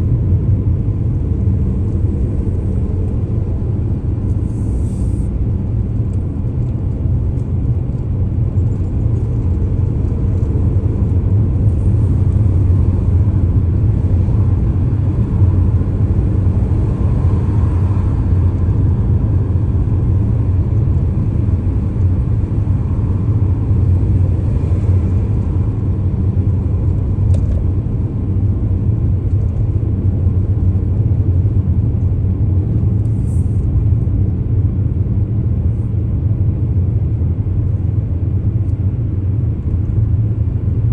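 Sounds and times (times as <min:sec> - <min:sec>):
car driving on road: 0:00.0 - 0:40.9.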